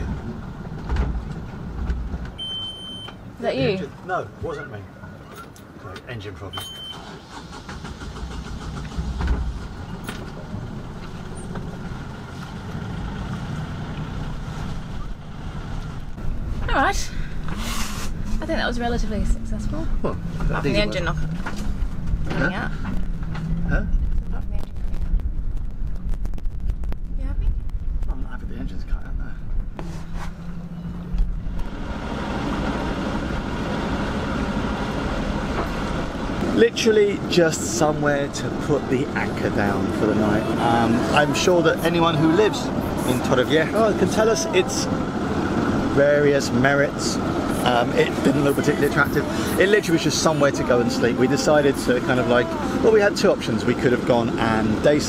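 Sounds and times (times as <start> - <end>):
boat engine rumbling: 0.0 - 55.0
low hum: 8.3 - 55.0.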